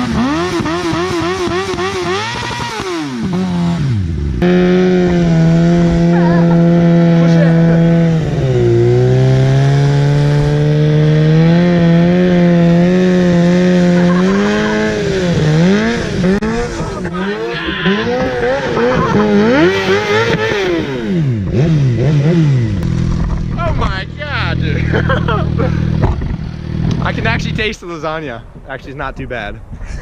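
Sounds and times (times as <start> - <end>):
motorcycle engine revving: 0.0 - 27.8.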